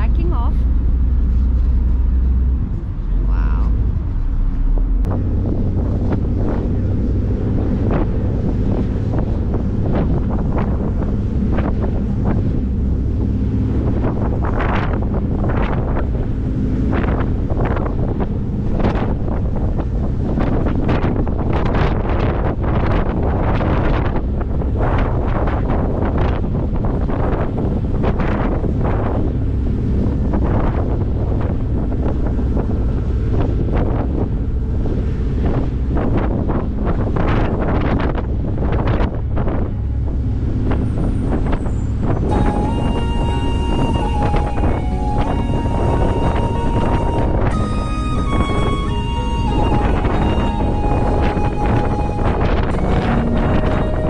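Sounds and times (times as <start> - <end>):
ferry engines droning: 0.0 - 54.0
wind buffeting microphone: 0.0 - 54.0.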